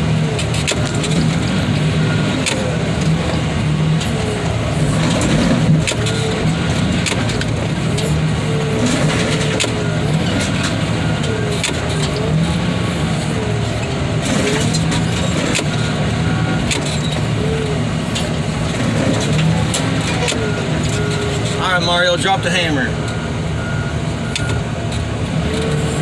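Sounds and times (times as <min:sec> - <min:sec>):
heavy diesel machine whining: 0:00.0 - 0:26.0.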